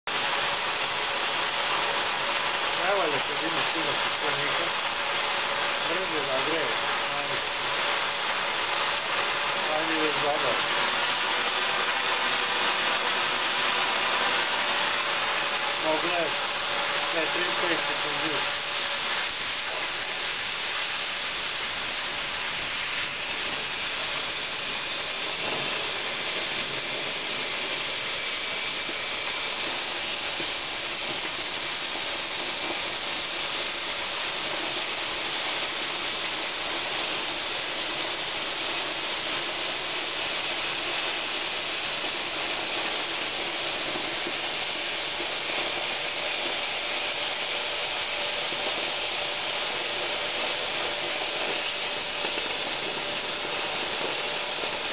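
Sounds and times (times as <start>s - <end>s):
cutting torch hissing: 0.1s - 54.9s.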